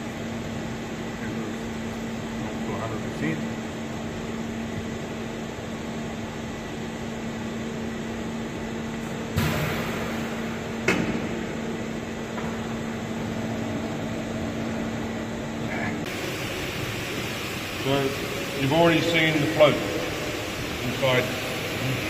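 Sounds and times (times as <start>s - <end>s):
machinery and ventilation hum: 0.0s - 22.0s.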